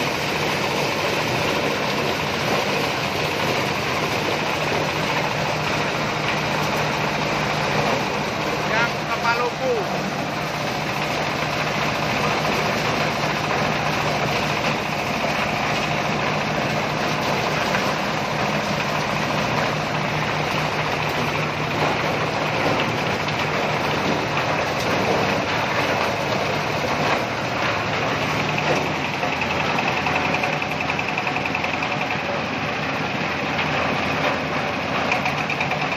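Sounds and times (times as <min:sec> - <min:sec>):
engine-driven corn sheller running: 0:00.0 - 0:35.9.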